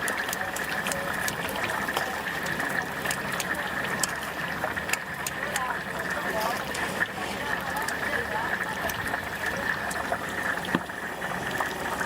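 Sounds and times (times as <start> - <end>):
food deep-frying in oil: 0.0 - 12.0
oil crackling and popping: 0.0 - 12.0.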